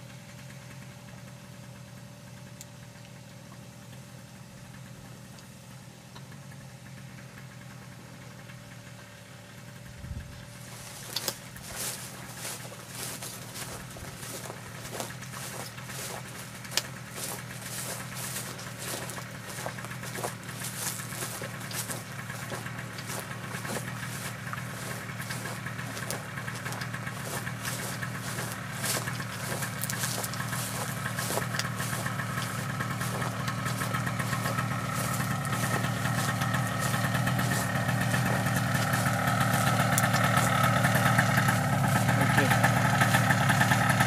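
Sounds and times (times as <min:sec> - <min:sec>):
small engine idling: 0:00.0 - 0:44.0.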